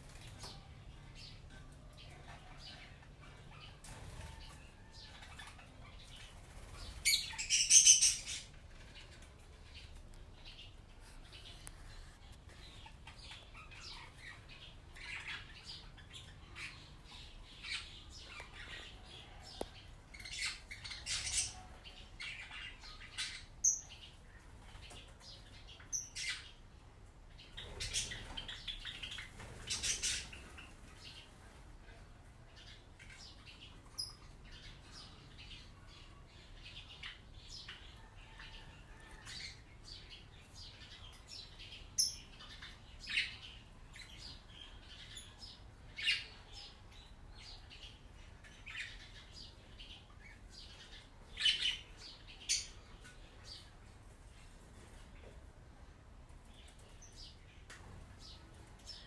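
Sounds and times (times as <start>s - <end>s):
birds chirping: 0.0s - 26.7s, 27.3s - 55.4s.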